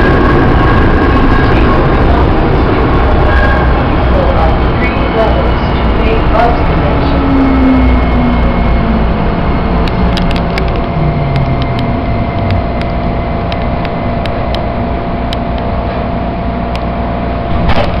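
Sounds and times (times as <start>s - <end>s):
train motor whine: 0.0s - 16.2s
train wheels rumbling in tunnel: 0.0s - 18.0s.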